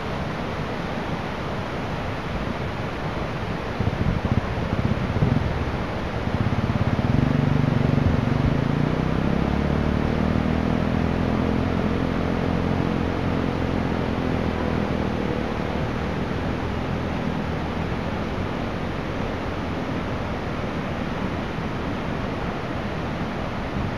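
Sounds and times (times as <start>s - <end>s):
low steady hum: 0.0s - 23.9s
river rushing in flood: 0.0s - 23.9s.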